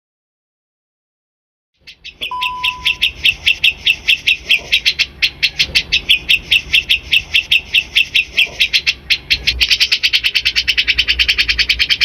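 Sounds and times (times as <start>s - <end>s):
bird song chirping and trilling: 1.8s - 12.0s.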